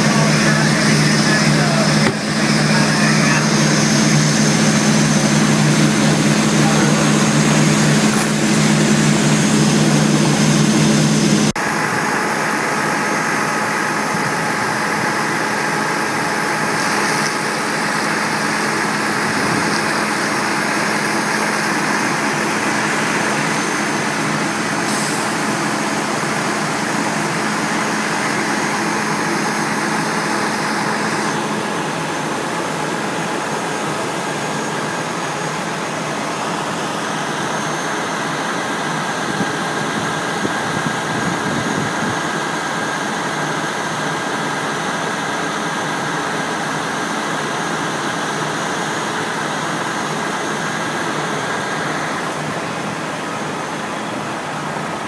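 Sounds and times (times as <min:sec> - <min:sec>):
diesel engine idling: 0:00.0 - 0:55.0
heavy engine drone inside vehicle: 0:00.0 - 0:55.0
steady whine: 0:00.0 - 0:55.0.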